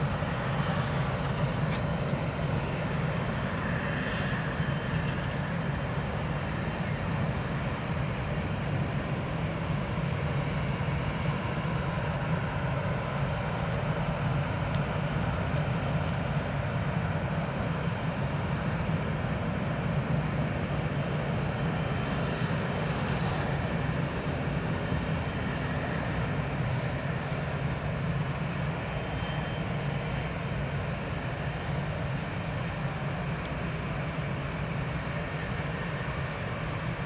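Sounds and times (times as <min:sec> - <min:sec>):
jet engines running steadily: 0:00.0 - 0:37.0.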